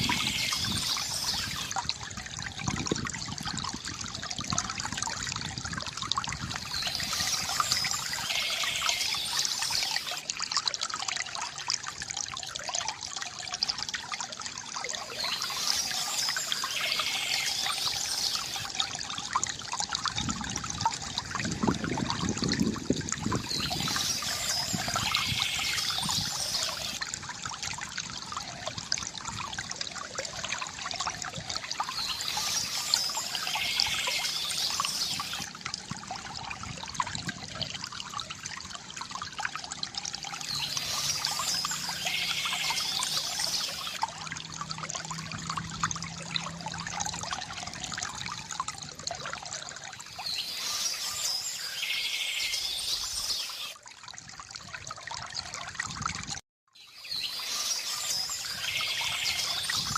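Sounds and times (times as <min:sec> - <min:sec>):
water trickling from fountain spout: 0:00.0 - 0:59.9.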